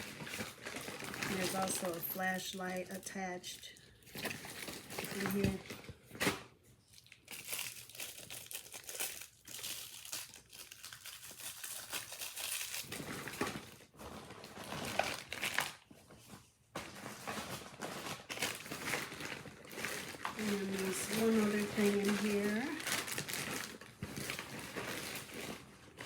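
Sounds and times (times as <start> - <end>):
bag contents crinkling and rustling: 0.0 - 26.0.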